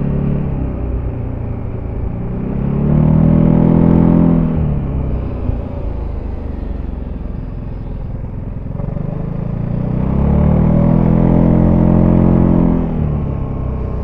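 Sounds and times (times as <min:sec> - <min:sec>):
scooter engine accelerating: 0:00.0 - 0:14.0.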